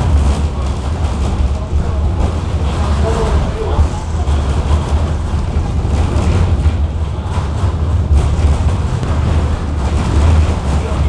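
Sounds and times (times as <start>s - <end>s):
tram rumble from inside: 0.0s - 11.0s.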